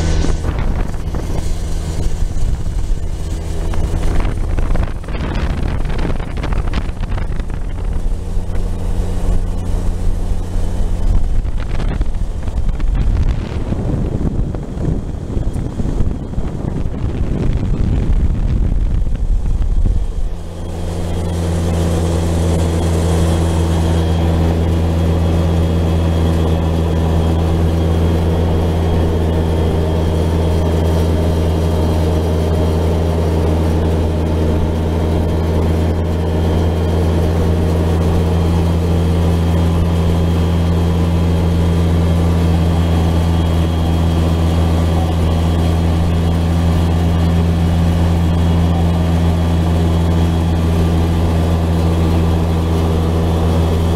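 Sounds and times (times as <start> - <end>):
utility vehicle engine drone: 0.0 - 53.9.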